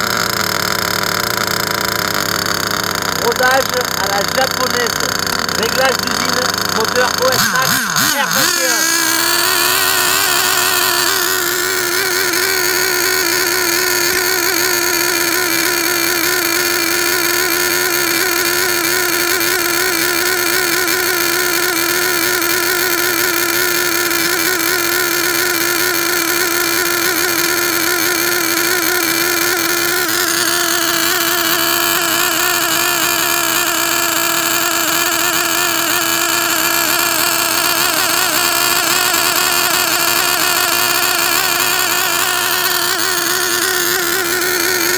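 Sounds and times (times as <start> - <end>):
model engine running high pitch: 0.0 - 44.9.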